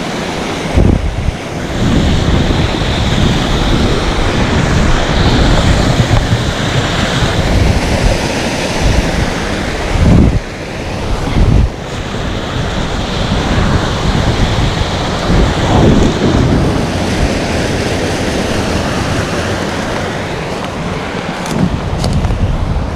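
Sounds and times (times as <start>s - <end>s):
waterfall rushing: 0.0s - 22.9s
wind buffeting the microphone: 0.5s - 22.9s.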